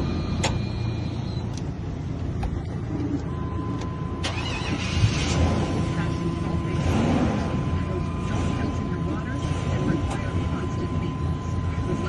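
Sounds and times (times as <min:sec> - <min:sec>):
van engine running: 0:00.0 - 0:12.0.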